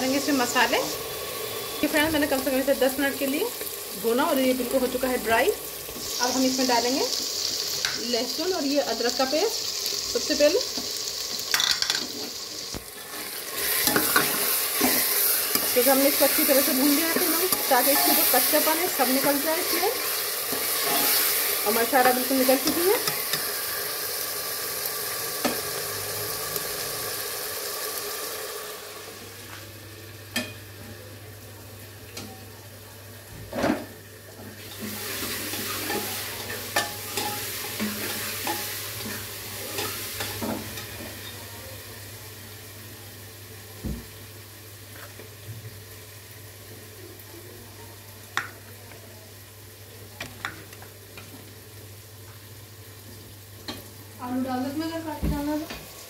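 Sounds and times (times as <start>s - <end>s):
meat sizzling in a pot: 0.0s - 56.0s.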